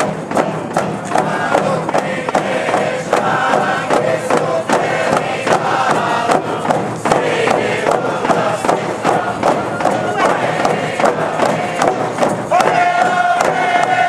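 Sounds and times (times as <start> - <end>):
frame drum beat: 0.0 - 14.0
large crowd noise: 0.0 - 14.0
voices chanting together: 0.4 - 14.0.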